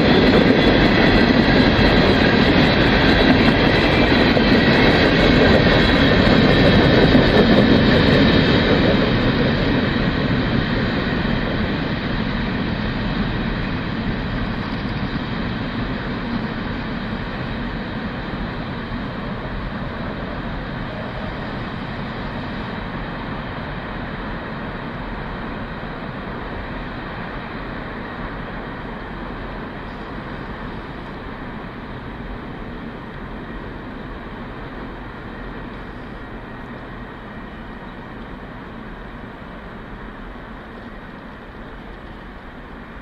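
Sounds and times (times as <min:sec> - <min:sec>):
train cars rolling on track: 0:00.0 - 0:43.0.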